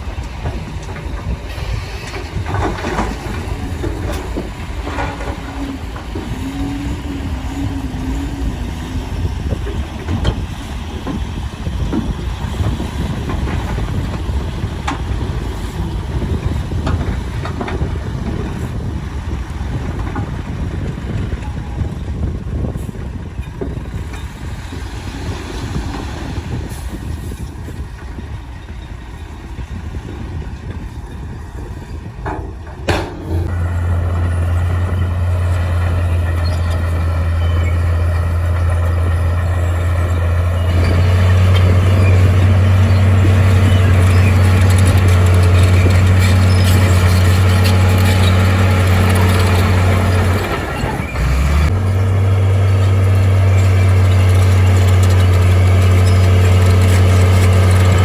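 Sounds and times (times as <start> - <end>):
heavy diesel engine drone: 0.0 - 21.2, 32.2 - 58.0.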